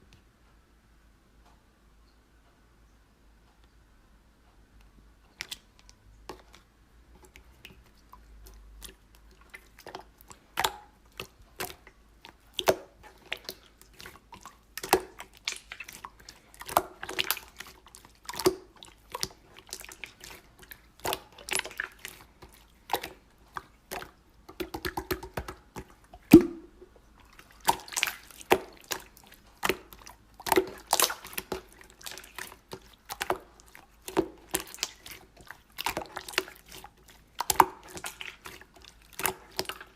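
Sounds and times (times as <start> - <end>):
slime squishing by hand: 5.3 - 39.9.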